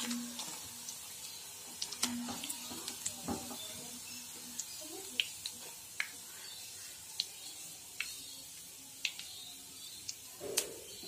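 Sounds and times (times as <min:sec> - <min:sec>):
frying oil sizzling and crackling: 0:00.0 - 0:11.0.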